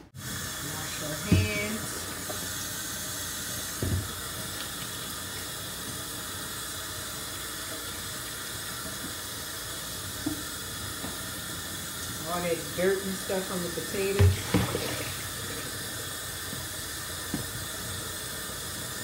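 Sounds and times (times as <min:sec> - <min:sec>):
tap water running into sink: 0:00.2 - 0:19.0
hands washing under water: 0:00.3 - 0:12.2, 0:14.1 - 0:17.8.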